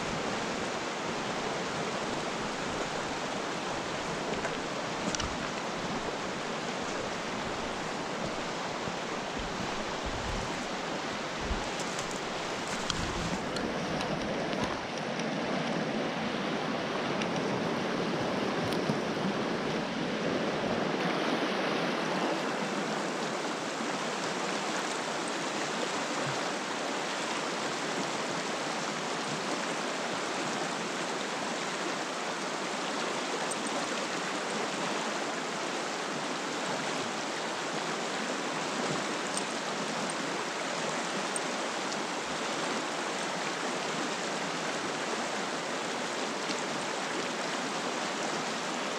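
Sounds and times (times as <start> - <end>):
river rushing over rocks: 0.0 - 48.9.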